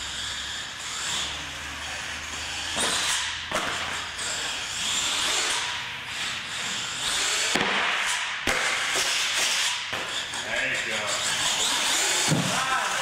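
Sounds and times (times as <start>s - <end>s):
rc truck motor whining: 0.0s - 13.0s.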